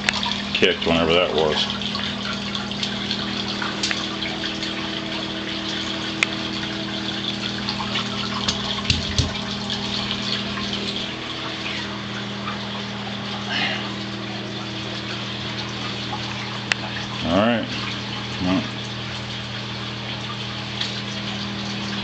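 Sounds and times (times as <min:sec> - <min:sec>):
sump pump motor humming: 0:00.0 - 0:22.0
water rushing: 0:00.0 - 0:22.0.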